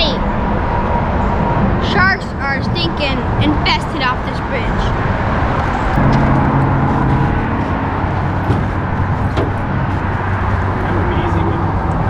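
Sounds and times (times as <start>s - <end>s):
low engine hum: 0.0s - 12.0s
road traffic passing: 0.0s - 12.0s.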